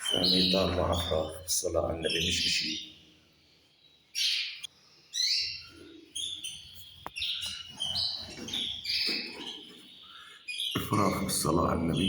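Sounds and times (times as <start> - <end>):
canaries chirping: 0.0 - 12.0.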